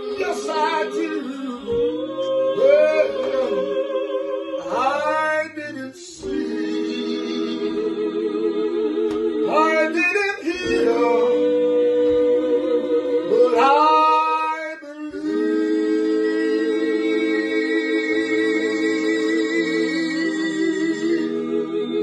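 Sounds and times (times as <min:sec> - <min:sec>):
voices singing a cappella: 0:00.0 - 0:22.0.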